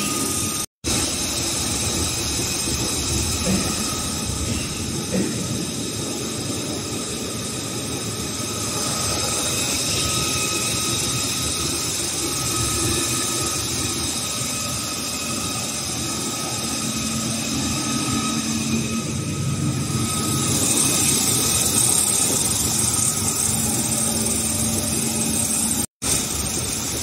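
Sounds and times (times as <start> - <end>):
steady machine noise: 0.0 - 27.0.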